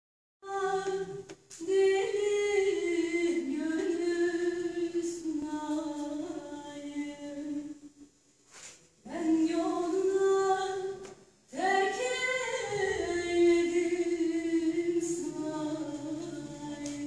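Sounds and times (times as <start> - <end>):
woman singing unaccompanied: 0.4 - 7.9, 9.0 - 17.0.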